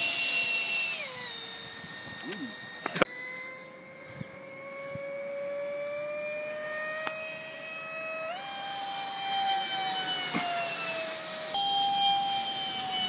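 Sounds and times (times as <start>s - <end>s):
model jet electric fan whining: 0.0s - 13.0s.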